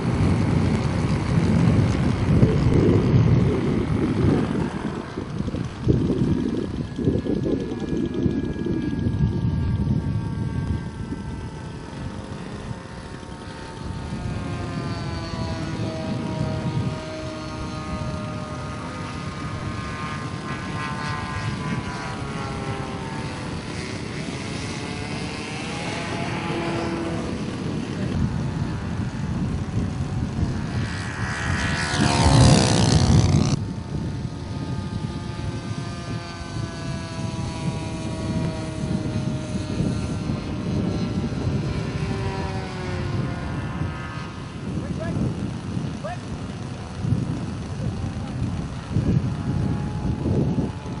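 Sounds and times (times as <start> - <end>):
model airplane propeller engine: 0.0 - 51.0.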